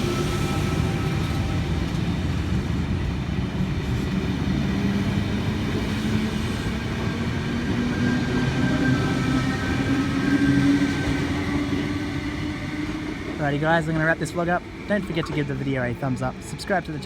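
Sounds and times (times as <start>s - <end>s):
electric train pulling away: 0.0s - 15.7s.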